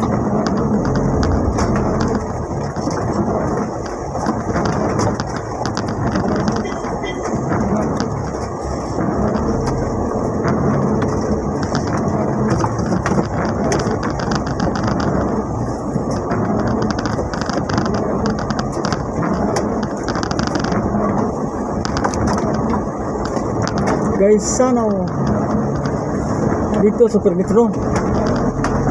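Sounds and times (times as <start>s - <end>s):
engine and road noise: 0.0s - 28.9s
heavy rain on a vehicle: 0.0s - 28.9s
raindrops ticking: 0.0s - 28.9s.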